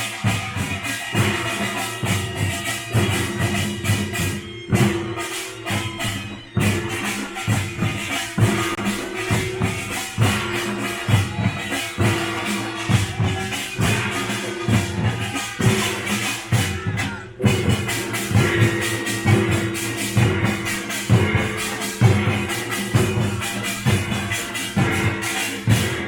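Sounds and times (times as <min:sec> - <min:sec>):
drums beating heavy strokes: 0:00.0 - 0:26.0
small brass gongs clanging: 0:00.0 - 0:26.0.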